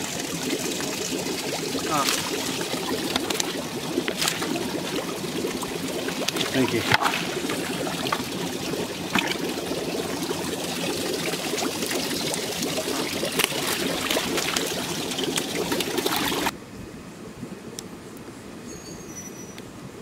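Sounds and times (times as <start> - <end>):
shallow water splashing and trickling: 0.0 - 16.5
sharp water splashes: 0.0 - 16.5.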